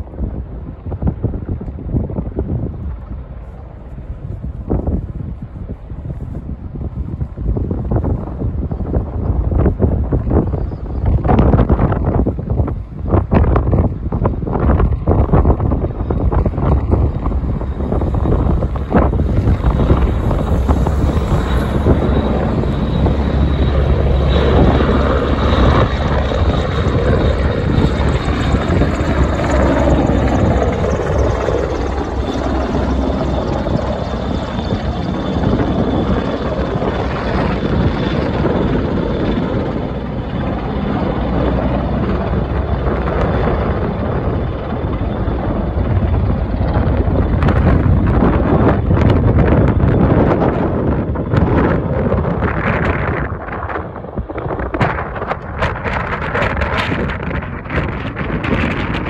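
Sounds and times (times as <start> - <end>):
helicopters flying past: 0.0 - 59.0
wind buffeting microphone: 0.0 - 59.0.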